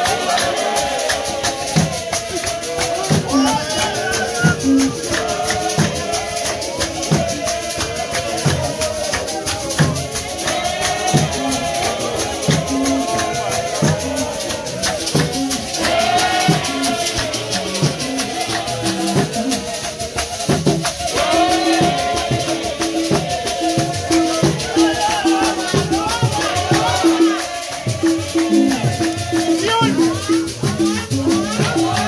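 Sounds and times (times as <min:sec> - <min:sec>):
crowd singing in chorus: 0:00.0 - 0:32.0
shakers rattling: 0:00.0 - 0:32.0
low drum beats: 0:00.1 - 0:32.0.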